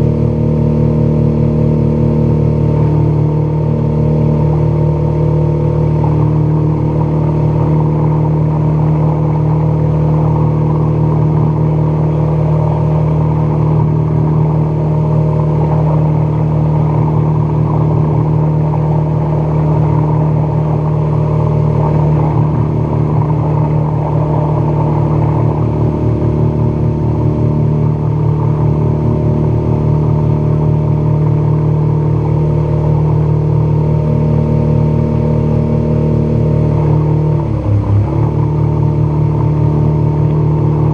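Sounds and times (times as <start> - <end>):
outboard motor running: 0.0 - 40.9
water rushing past hull: 0.0 - 40.9.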